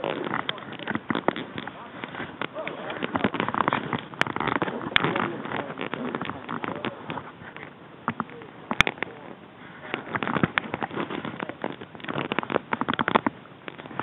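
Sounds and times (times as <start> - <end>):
sharp clicks and pops: 0.0 - 14.0.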